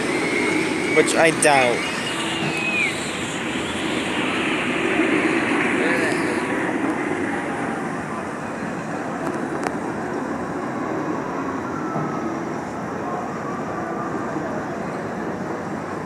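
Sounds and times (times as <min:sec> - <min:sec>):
steady rushing outdoor noise: 0:00.0 - 0:16.0.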